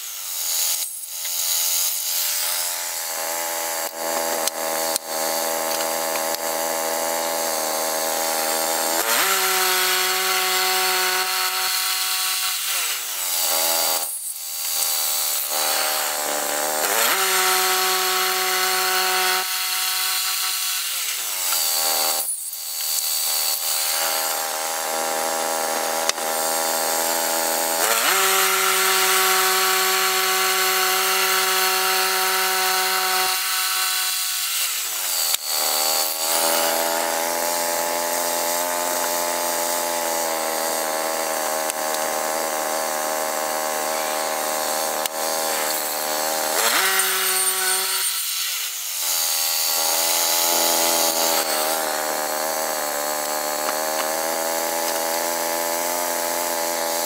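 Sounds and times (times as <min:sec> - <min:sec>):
band saw blade cutting log: 0:00.0 - 0:57.0.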